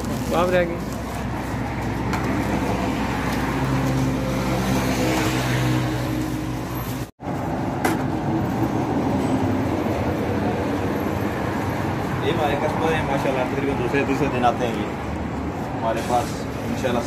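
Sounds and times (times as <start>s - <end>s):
street traffic engine hum: 0.0s - 17.0s.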